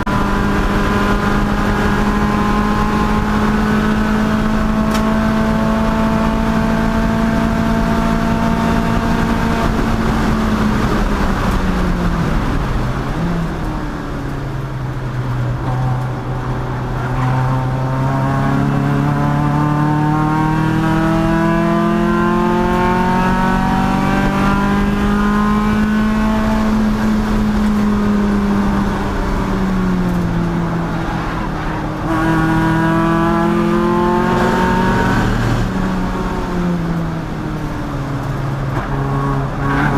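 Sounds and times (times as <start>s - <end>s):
race car engine revving: 0.0s - 13.2s, 15.0s - 37.4s.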